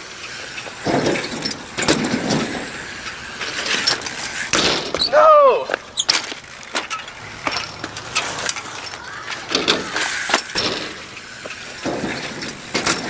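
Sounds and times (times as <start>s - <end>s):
bike clicks and knocks: 0.0s - 13.0s.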